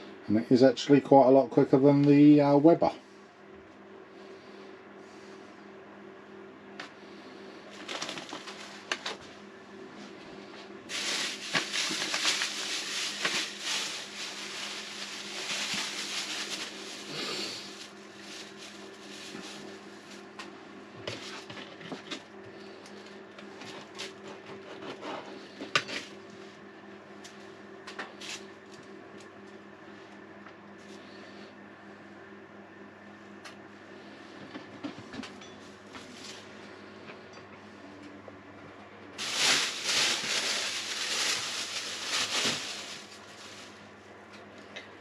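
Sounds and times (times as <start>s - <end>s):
appliance fan humming: 0.0s - 45.0s.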